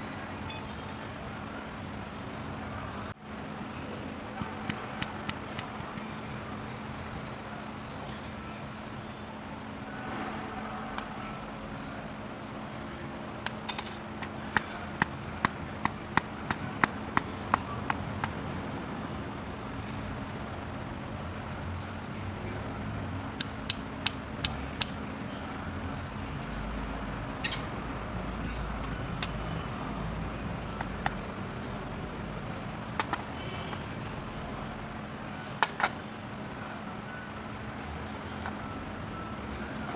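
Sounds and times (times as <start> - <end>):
traffic: 0.0 - 39.9.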